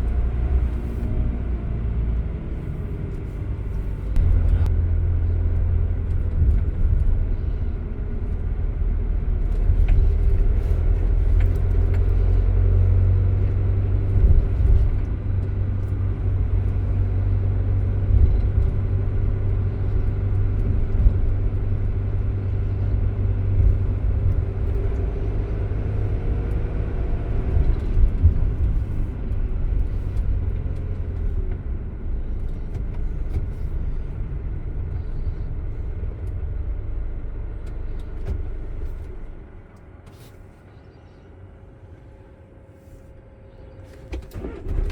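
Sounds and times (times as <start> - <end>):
van engine and road rumble: 0.0 - 44.9.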